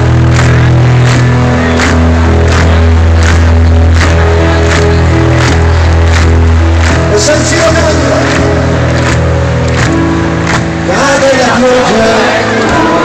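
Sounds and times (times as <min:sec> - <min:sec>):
live rock band over pa: 0:00.0 - 0:13.0.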